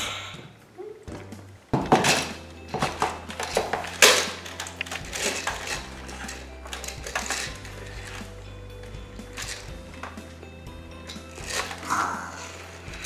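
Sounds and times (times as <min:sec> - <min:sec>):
plastic toys clattering: 0:01.7 - 0:13.0.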